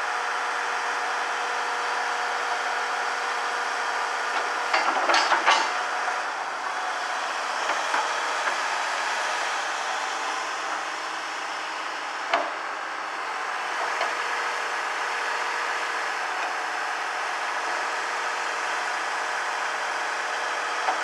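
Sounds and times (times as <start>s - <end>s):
excavator diesel engine running: 0.1s - 21.0s.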